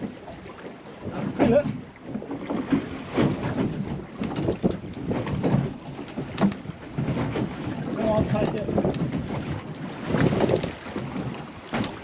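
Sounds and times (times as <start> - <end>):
water lapping against boat hull: 0.0 - 12.0
wind buffeting microphone: 0.0 - 12.0.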